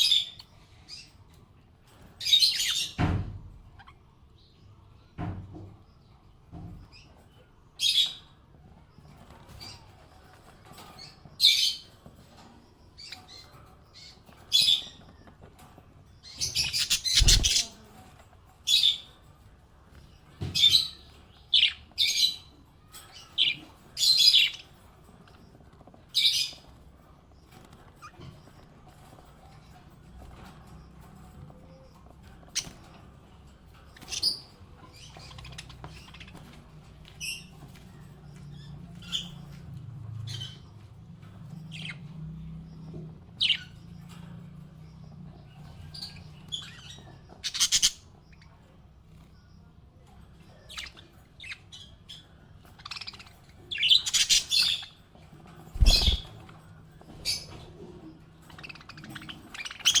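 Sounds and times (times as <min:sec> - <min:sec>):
budgerigars chirping and squawking: 0:00.0 - 0:01.3, 0:01.9 - 0:04.5, 0:06.6 - 1:00.0.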